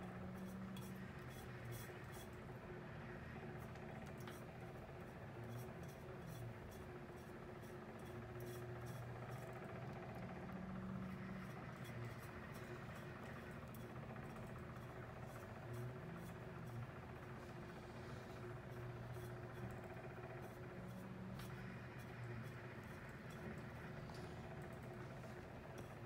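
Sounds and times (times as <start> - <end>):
small motor humming: 0.0 - 26.0
light regular ticks: 3.5 - 26.0.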